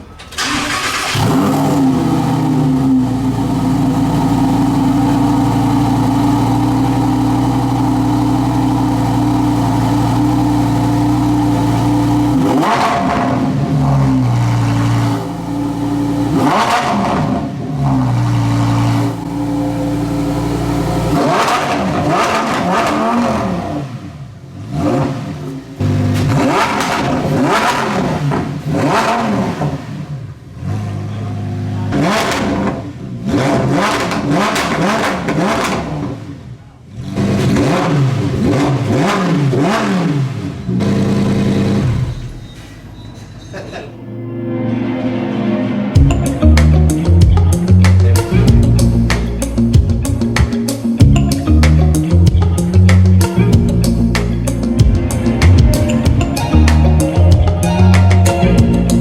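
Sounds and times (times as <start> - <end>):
sports car engine idling and revving: 0.0 - 42.7, 46.0 - 59.0.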